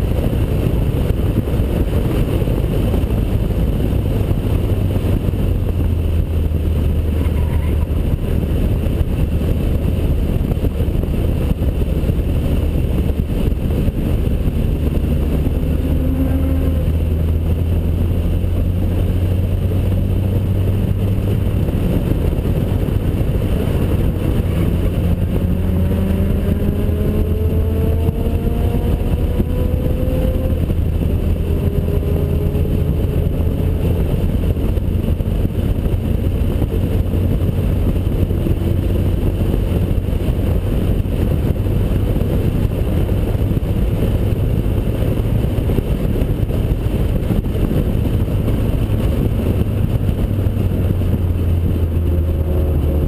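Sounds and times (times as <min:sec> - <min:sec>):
car engine accelerating: 0:00.0 - 0:53.0
wind rush and buffeting: 0:00.0 - 0:53.0.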